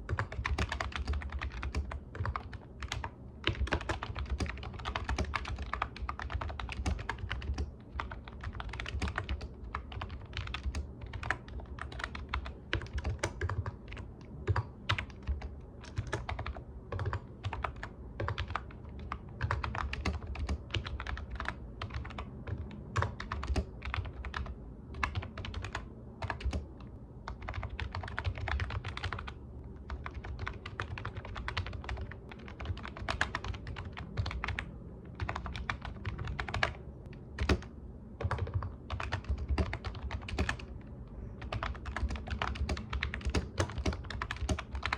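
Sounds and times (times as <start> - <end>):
computer keyboard typing: 0.0 - 40.8, 41.4 - 44.9.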